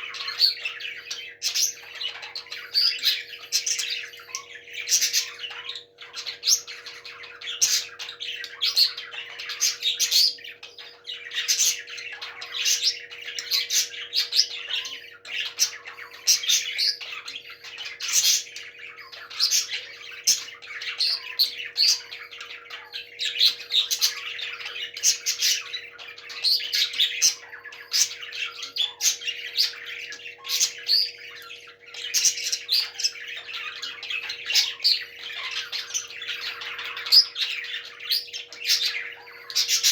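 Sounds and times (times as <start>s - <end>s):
parrots squawking: 0.0s - 39.9s.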